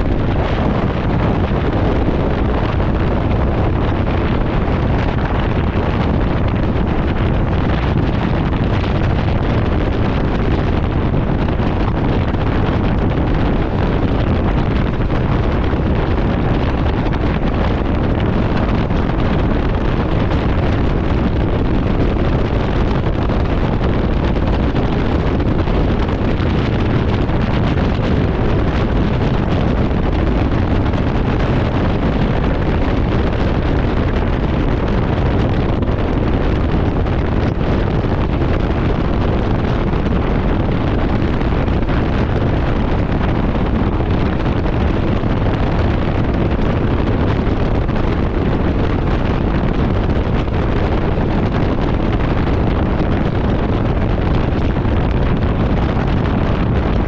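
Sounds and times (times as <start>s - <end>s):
motorcycle and road noise: 0.0s - 57.0s
wind buffeting microphone: 0.0s - 57.0s.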